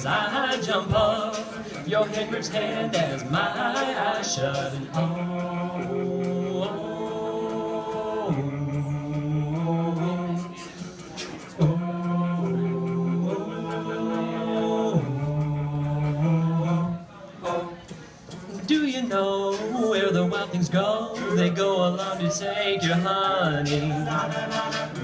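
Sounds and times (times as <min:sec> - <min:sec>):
a cappella group singing chords: 0:00.0 - 0:25.0.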